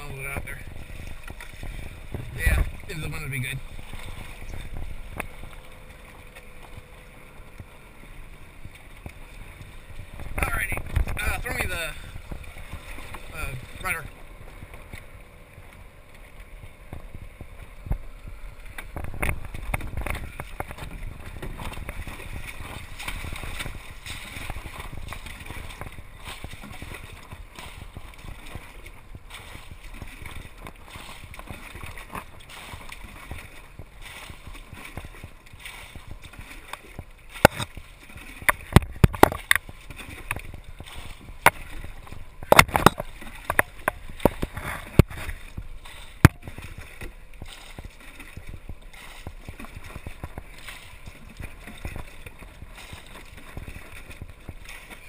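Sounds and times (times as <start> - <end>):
wind on microphone: 0.0 - 6.1, 7.6 - 15.6, 16.6 - 55.0
water lapping around a dinghy: 0.0 - 55.0.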